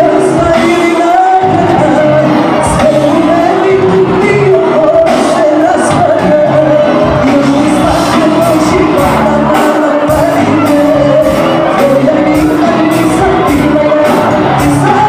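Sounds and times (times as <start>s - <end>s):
live pop-folk band: 0.0s - 15.0s
person singing lead: 0.0s - 15.0s.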